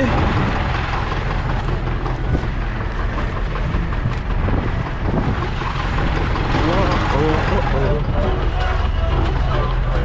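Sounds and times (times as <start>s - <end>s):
farm machinery engine running: 0.0s - 10.0s
wind noise on microphone: 0.0s - 10.0s.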